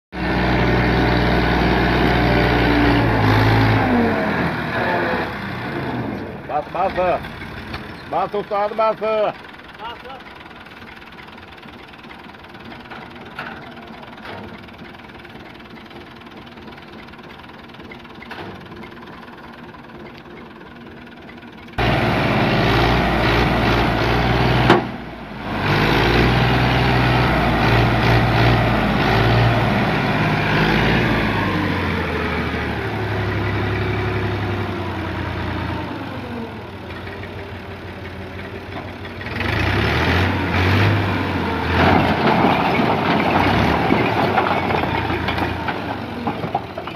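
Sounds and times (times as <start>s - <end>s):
tractor diesel engine revving: 0.2s - 46.9s.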